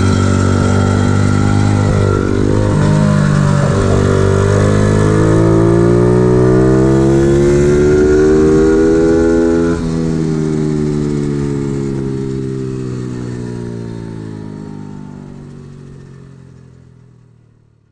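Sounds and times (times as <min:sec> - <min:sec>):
motorbike engine revving: 0:00.0 - 0:16.2.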